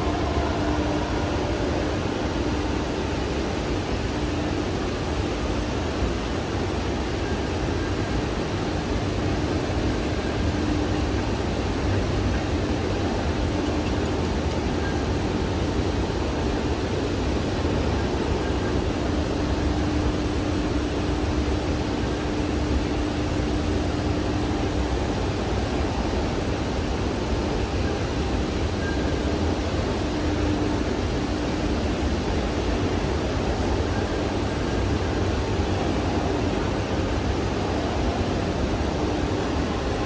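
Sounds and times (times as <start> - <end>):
faint steady hum: 0.0 - 40.0
indoor store ambience: 0.0 - 40.0.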